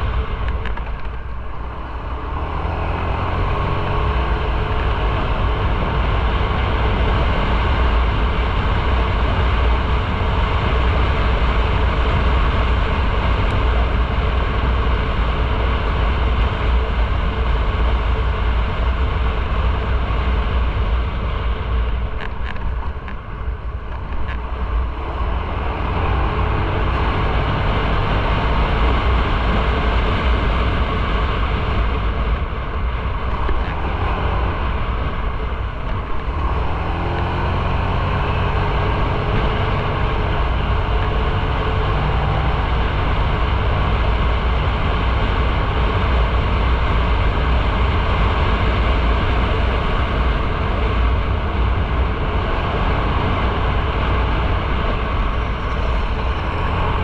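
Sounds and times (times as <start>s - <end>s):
motorcycle engine: 0.0s - 57.0s
wind rumble on microphone: 0.0s - 57.0s.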